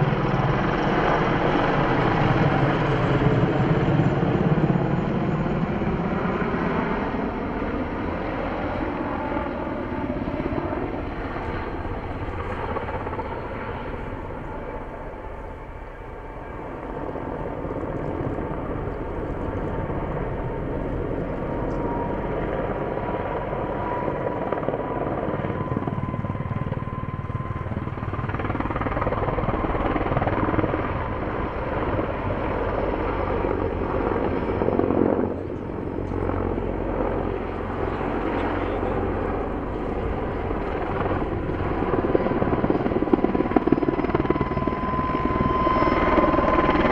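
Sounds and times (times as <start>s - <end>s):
helicopter flying: 0.0s - 46.9s.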